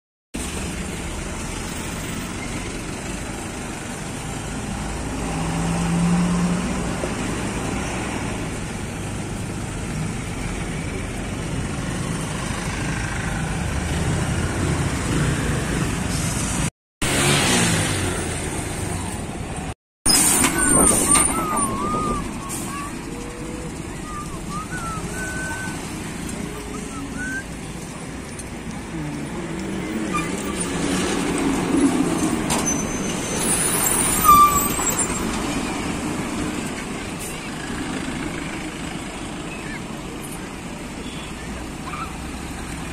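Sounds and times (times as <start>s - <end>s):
highway traffic passing: 0.4s - 42.9s
truck passing close: 0.4s - 42.9s.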